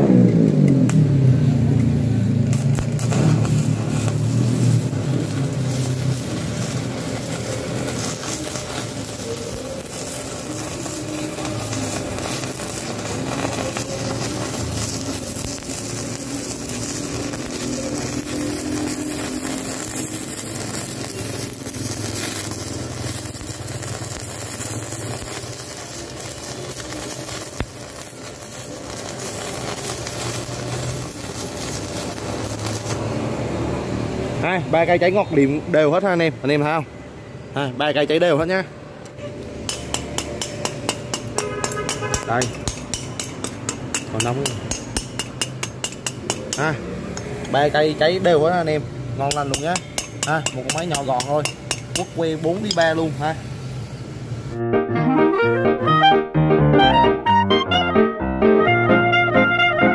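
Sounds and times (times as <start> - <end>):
welding arc crackling sizzle: 0.0 - 36.9, 37.6 - 54.6.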